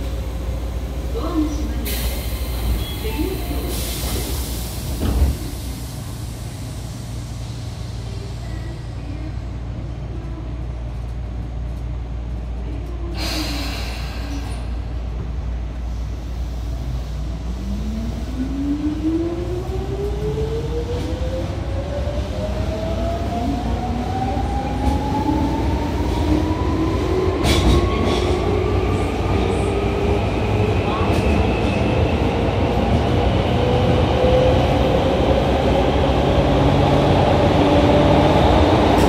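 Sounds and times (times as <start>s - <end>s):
train interior low hum: 0.0s - 39.0s.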